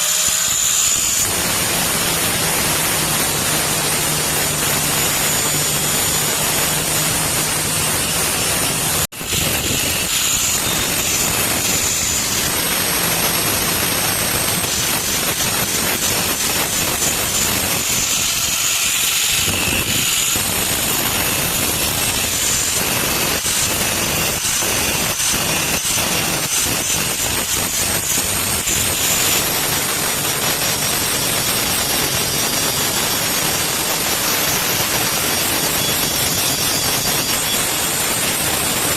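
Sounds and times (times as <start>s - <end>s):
machine running: 0.0s - 38.9s.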